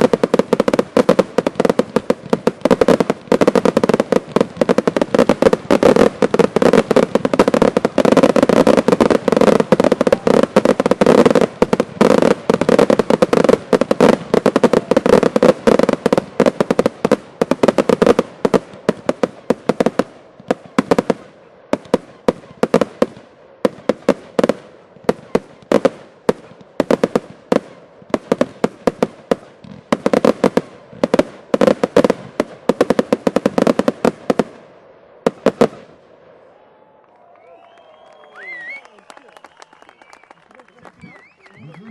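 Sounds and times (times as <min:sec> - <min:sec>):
fireworks bangs and crackles: 0:00.0 - 0:36.7, 0:37.6 - 0:41.9.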